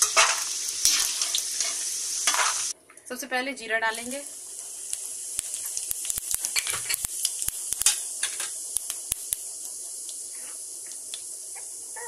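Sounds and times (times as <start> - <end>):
seeds sizzling in hot oil: 0.0 - 2.8, 3.8 - 12.0.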